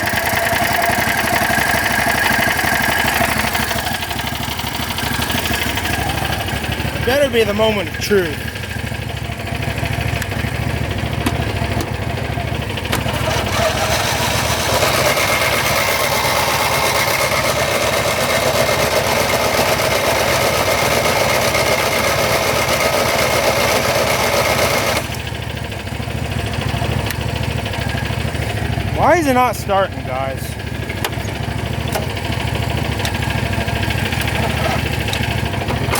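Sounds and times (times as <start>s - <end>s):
engine starter cranking: 0.0s - 8.9s, 9.9s - 25.3s, 30.6s - 35.9s
engine idling: 0.0s - 35.9s.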